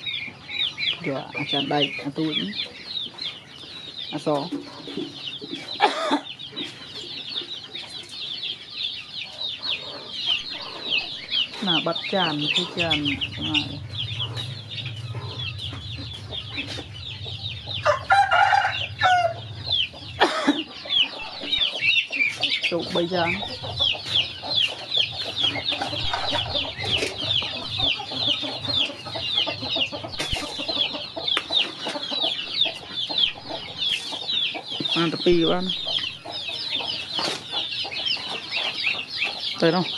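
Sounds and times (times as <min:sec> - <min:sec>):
chicks and ducklings peeping: 0:00.0 - 0:39.9
hen clucking: 0:00.0 - 0:39.9.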